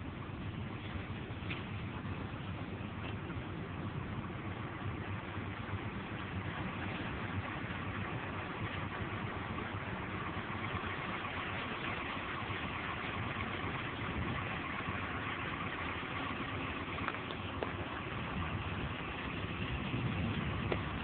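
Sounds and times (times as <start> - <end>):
boat engine running: 0.0 - 21.0
water noise: 0.0 - 21.0
wind: 0.0 - 21.0.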